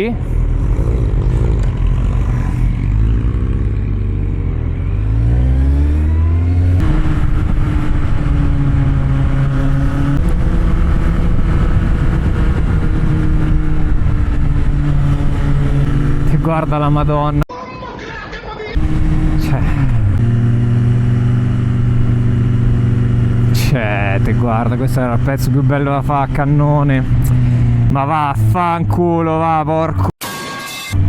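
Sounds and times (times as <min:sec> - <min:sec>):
motorcycle engine revving: 0:00.0 - 0:17.4, 0:18.8 - 0:28.8.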